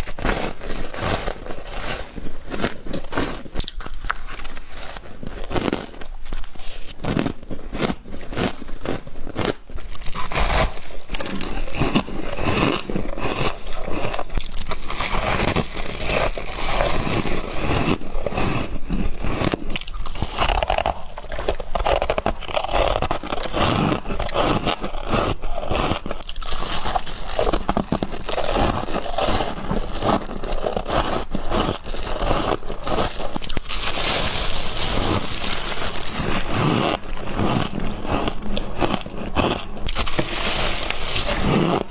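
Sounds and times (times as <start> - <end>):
frost crunching being chewed: 0.0 - 41.9.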